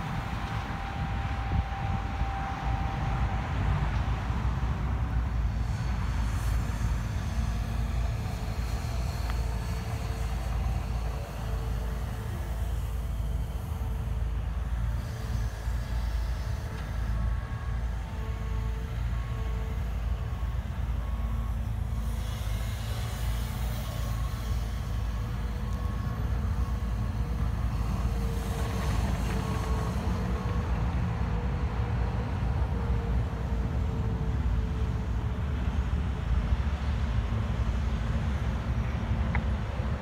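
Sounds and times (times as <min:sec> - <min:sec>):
diesel engines rumbling: 0:00.0 - 0:40.0.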